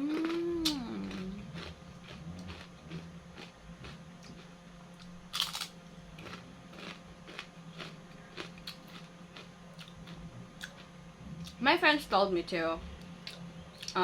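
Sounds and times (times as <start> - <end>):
crispy chips being chewed: 0.0 - 11.6, 13.2 - 14.0.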